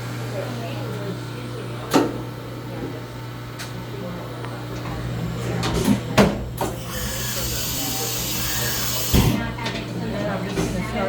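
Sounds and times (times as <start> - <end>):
machining center humming: 0.0 - 11.0.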